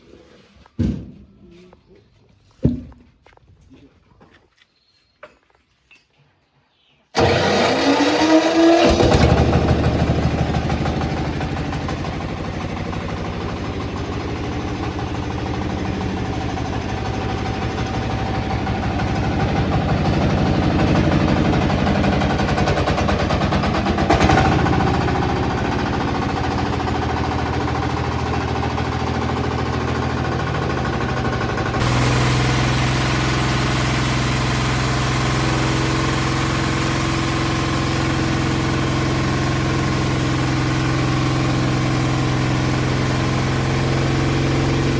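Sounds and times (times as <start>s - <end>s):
band sawmill running: 7.2s - 44.9s.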